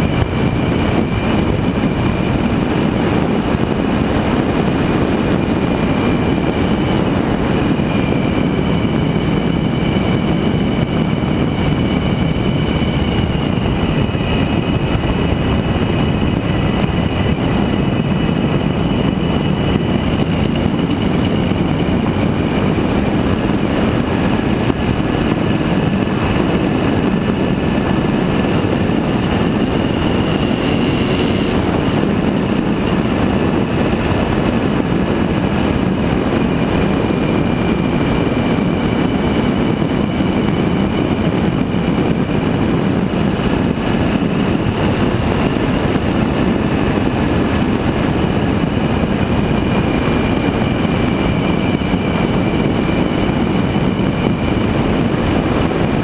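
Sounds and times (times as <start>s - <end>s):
motorcycle engine droning: 0.0s - 56.0s.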